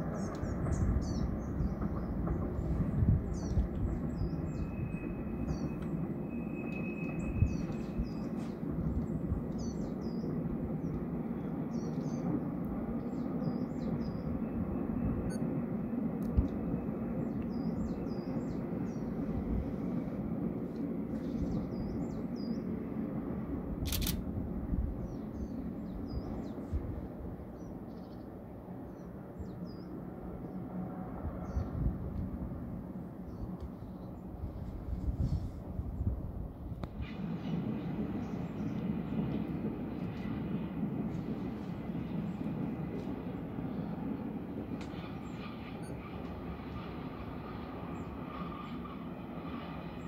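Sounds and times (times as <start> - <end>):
distant trains rumbling: 0.0 - 50.0.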